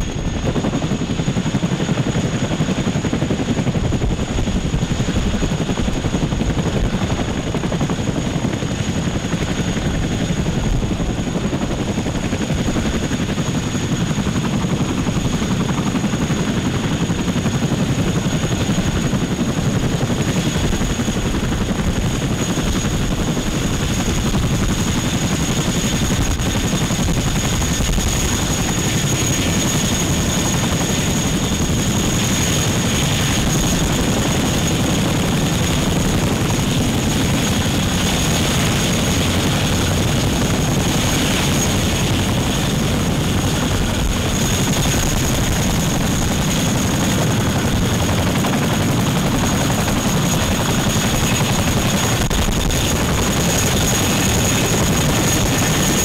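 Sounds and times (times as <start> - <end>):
helicopter rotors chopping: 0.0 - 56.0
high turbine whine: 0.0 - 56.0.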